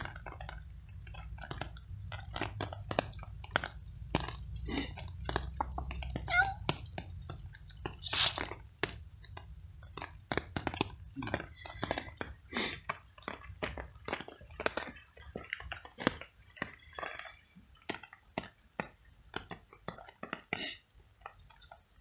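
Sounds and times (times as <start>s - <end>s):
cat chewing meat: 0.0s - 21.9s.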